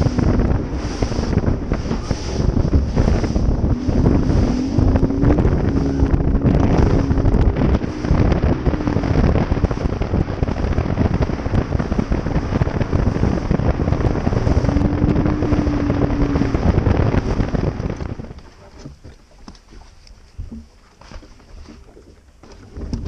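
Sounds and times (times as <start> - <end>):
hull slapping water: 0.0 - 23.0
outboard motor tone: 0.0 - 23.0
wind buffeting microphone: 0.0 - 23.0.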